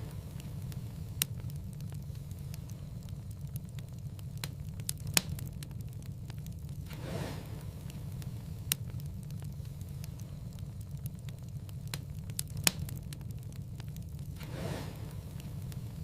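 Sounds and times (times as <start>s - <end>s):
sharp pops from fire: 0.0s - 16.0s
soft falling hiss: 0.0s - 16.0s
wood fire crackling: 0.0s - 16.0s.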